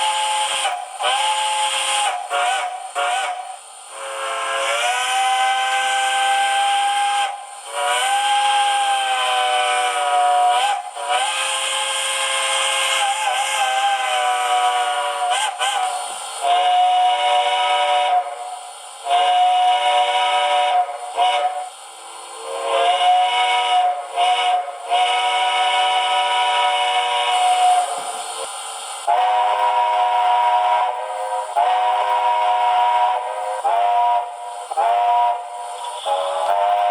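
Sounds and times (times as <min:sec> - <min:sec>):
steam locomotive chime whistle: 0:00.0 - 0:36.9.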